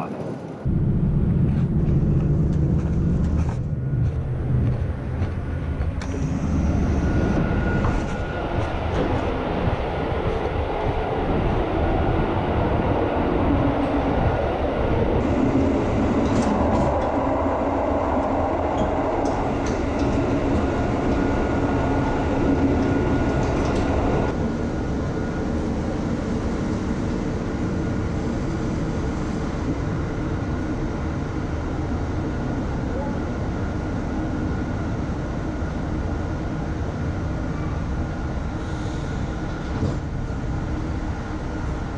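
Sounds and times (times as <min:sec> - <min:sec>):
diesel railcar interior rumble: 0:00.0 - 0:41.9.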